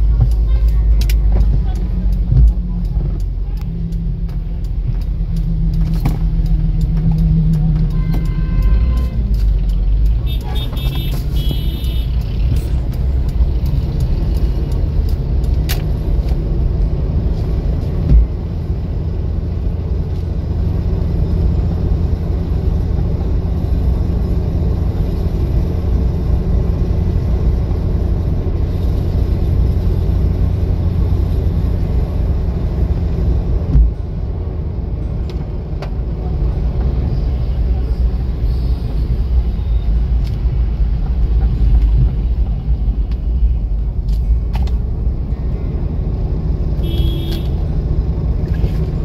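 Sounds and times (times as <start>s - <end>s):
car engine and tyres rumbling: 0.0s - 49.0s.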